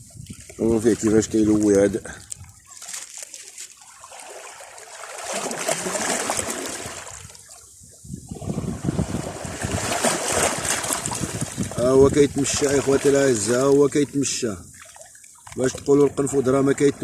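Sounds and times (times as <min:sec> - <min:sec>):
seawater washing over rocks: 0:00.5 - 0:07.5, 0:08.4 - 0:17.0.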